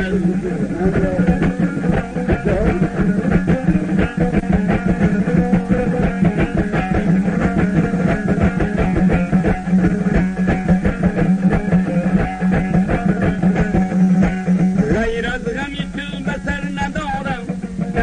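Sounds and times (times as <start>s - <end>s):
rapid plucked string music: 0.0s - 18.0s.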